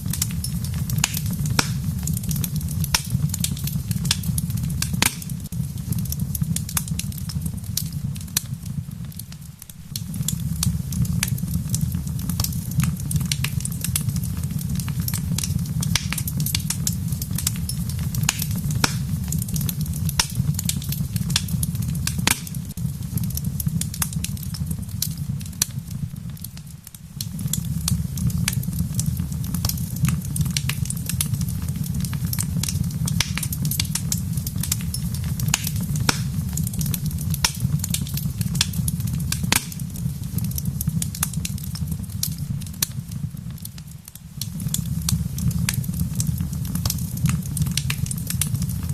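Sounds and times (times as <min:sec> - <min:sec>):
wood fire popping and snapping: 0:00.0 - 0:48.9.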